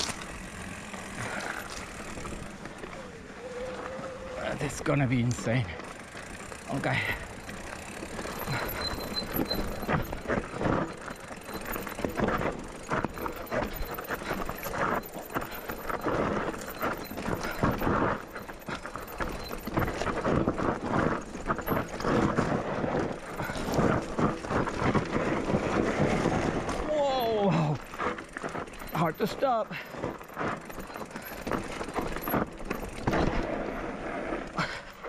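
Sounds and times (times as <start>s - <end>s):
tyres crunching on gravel: 0.0s - 34.8s
bike clattering over rocks: 5.3s - 33.7s.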